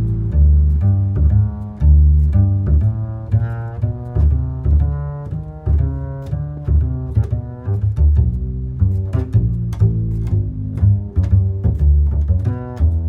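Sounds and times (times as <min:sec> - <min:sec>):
low strings plucked and bowed: 0:00.0 - 0:13.0.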